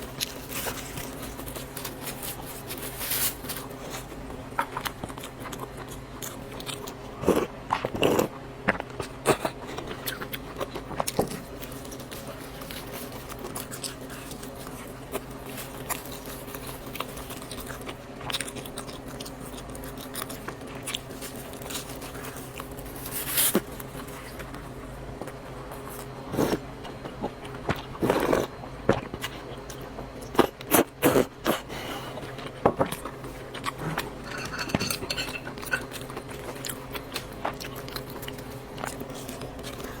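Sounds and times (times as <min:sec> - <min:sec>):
chewing noodles: 0:00.0 - 0:40.0
steady low hum: 0:00.0 - 0:40.0.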